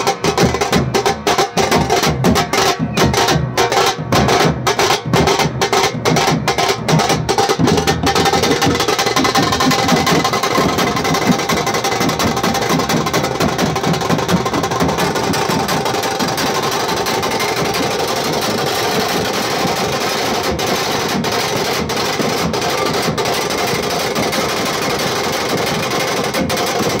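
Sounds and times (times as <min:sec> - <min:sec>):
barrel drums beaten with sticks: 0:00.0 - 0:27.0.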